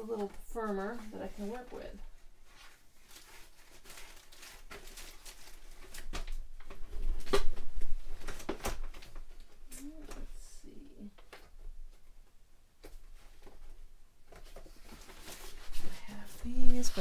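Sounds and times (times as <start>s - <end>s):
knocks and handling noises: 2.6s - 10.4s, 11.2s - 17.0s.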